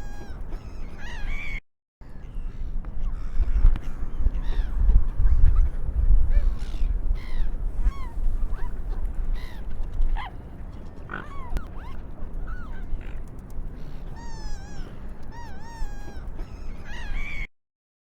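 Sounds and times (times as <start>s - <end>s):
seagulls calling: 0.0s - 17.5s
steady low rumble: 2.0s - 17.4s.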